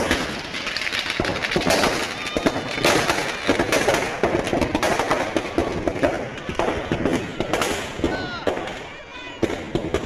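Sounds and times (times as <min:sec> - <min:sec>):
firecrackers banging and crackling: 0:00.0 - 0:10.0.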